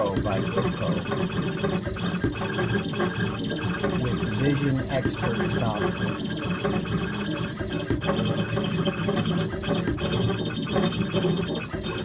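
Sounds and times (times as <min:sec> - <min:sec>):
steady motor tone: 0:00.0 - 0:12.0.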